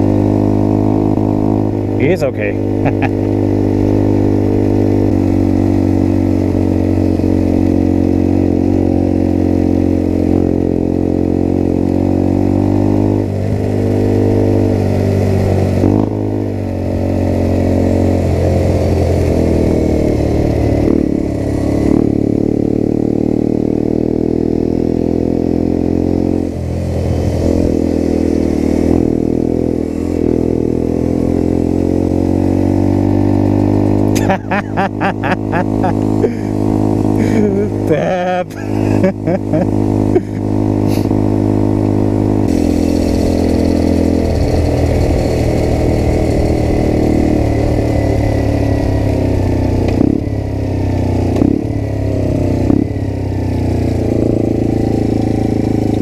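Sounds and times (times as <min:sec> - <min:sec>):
small motorcycle engine revving: 0:00.0 - 0:56.0.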